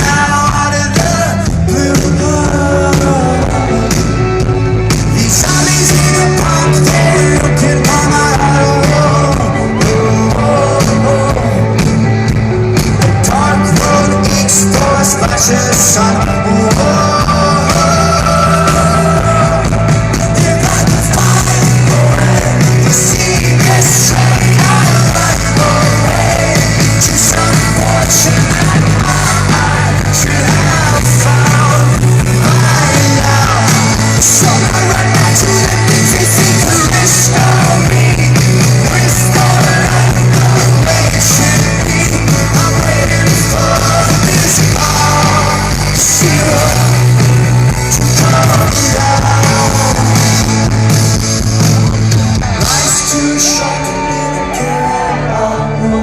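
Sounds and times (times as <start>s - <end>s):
lead singer singing: 0.0s - 56.0s
rock band playing live: 0.0s - 56.0s
sustained bass notes: 0.0s - 56.0s.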